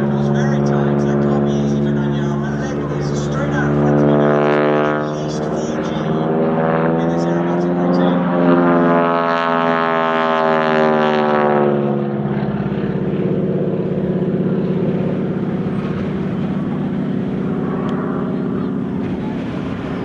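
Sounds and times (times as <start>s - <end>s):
propeller aircraft flying past: 0.0s - 20.0s.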